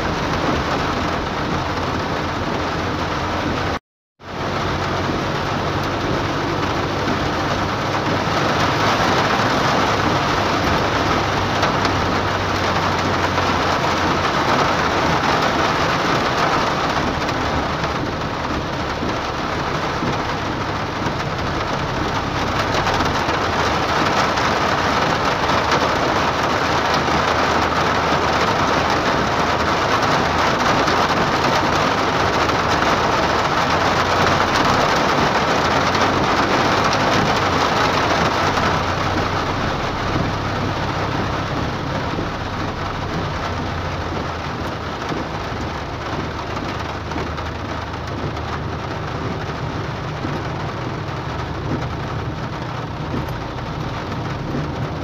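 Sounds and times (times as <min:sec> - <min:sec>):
heavy rain on car windshield: 0:00.0 - 0:55.0
tyre noise on wet road: 0:00.0 - 0:55.0.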